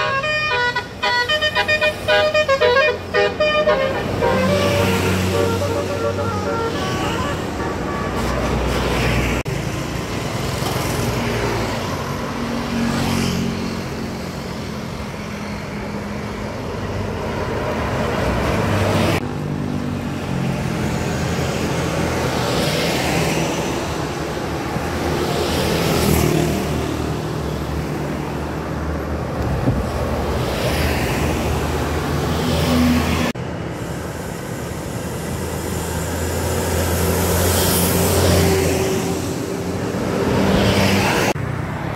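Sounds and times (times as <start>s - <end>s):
buses driving past: 0.0s - 41.9s
traffic noise: 0.0s - 41.9s.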